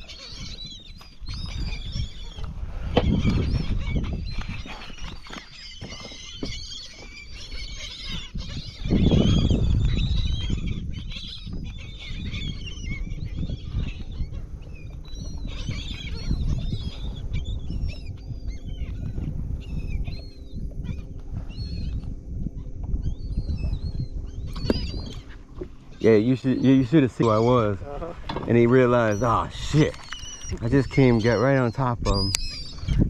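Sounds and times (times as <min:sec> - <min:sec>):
seabirds calling: 0:00.0 - 0:33.0.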